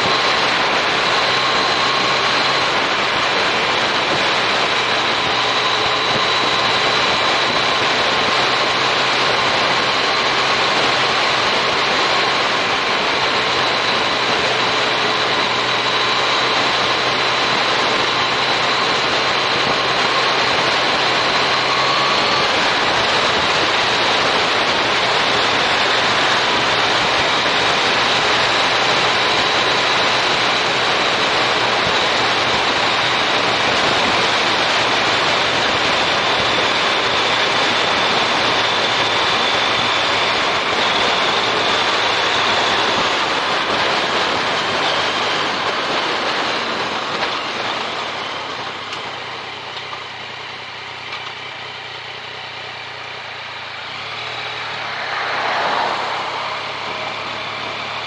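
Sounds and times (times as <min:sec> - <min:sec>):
motorcycle engine hum: 0:00.0 - 0:58.0
wind and road noise: 0:00.0 - 0:58.0.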